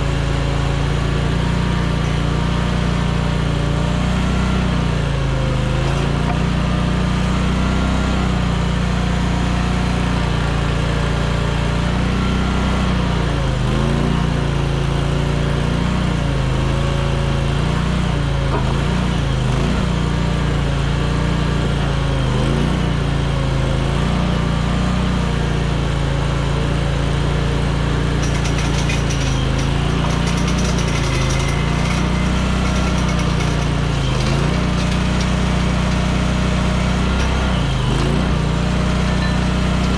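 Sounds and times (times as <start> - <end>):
skid steer engine running hard: 0.0 - 39.9.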